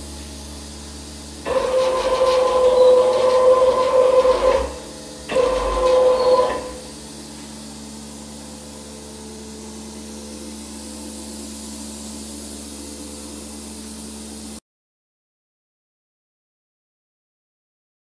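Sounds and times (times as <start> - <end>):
vacuum mixer motor humming: 0.0 - 14.6.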